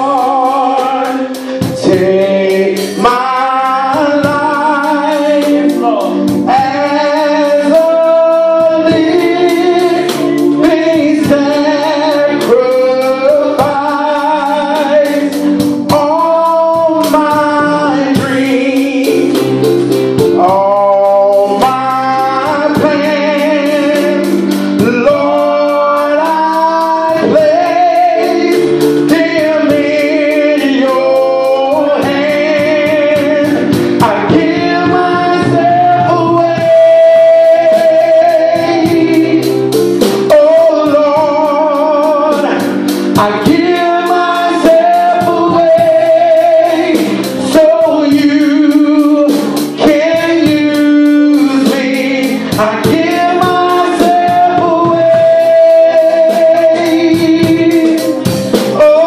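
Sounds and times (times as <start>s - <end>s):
instrumental backing: 0.0s - 59.0s
man singing gospel song: 0.0s - 59.0s.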